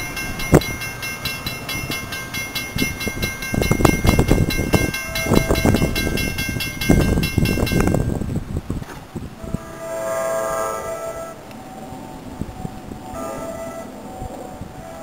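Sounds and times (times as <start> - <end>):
crossing warning bell ringing: 0.0 - 8.3, 9.4 - 15.0.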